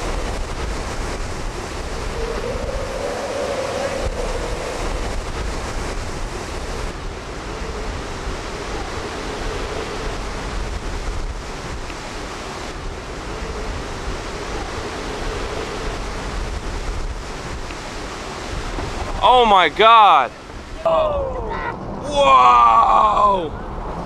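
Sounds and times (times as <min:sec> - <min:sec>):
storm wind buffeting microphone: 0:00.0 - 0:24.0.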